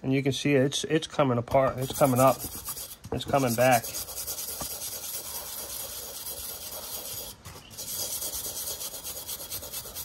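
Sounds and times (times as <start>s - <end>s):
wire brush scrubbing metal: 1.8s - 10.0s.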